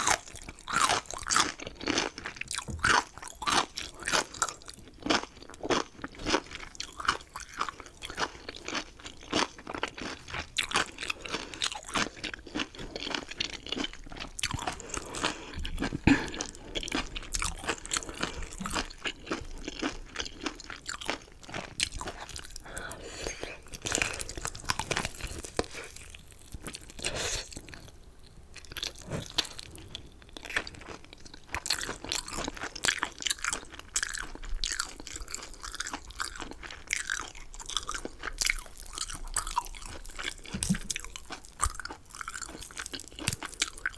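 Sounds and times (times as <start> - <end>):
crunching and wet chewing: 0.0 - 43.9.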